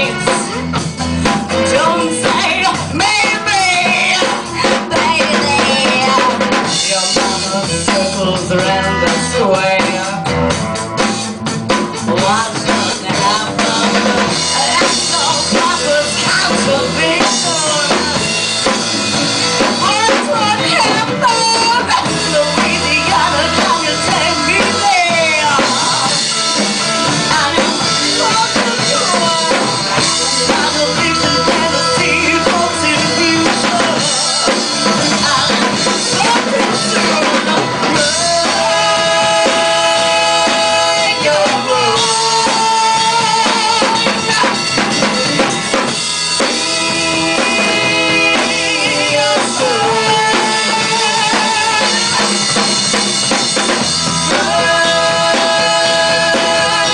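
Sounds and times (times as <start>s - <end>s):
drum kit beat: 0.0s - 56.9s
live rock band playing: 0.0s - 56.9s.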